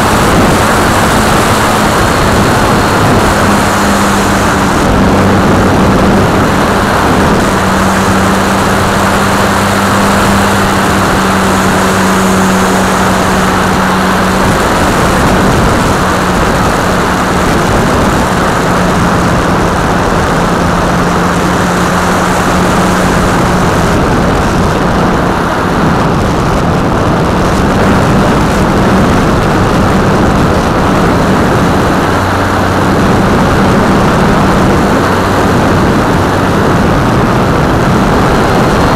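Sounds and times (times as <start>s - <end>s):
electric motor and propeller hum: 0.0s - 38.9s
loud wind rush: 0.0s - 38.9s.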